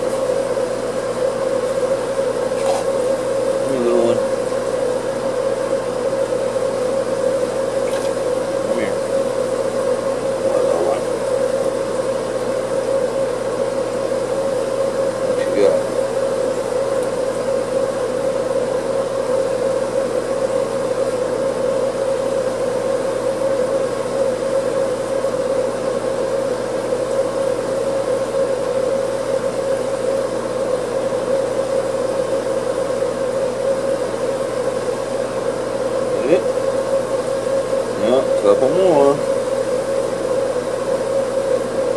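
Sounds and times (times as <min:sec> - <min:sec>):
machine hum: 0:00.0 - 0:41.9.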